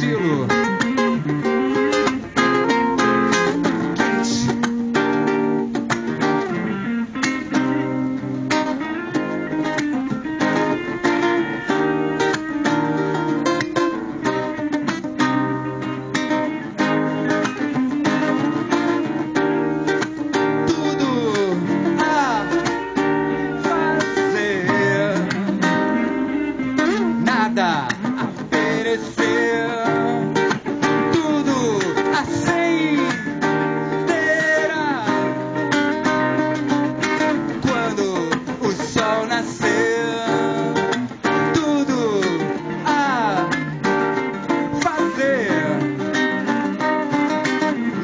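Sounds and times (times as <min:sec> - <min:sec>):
acoustic guitar strumming chords: 0:00.0 - 0:48.0
electric guitar lead lines: 0:00.0 - 0:48.0.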